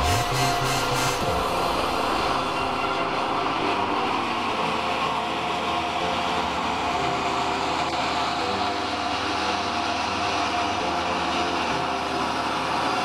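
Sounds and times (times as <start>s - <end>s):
band saw machinery drone: 0.0s - 13.0s.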